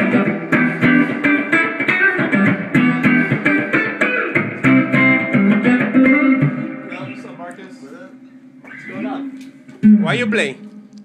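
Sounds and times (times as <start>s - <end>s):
guitar picking quick notes: 0.0s - 7.4s, 8.6s - 11.0s.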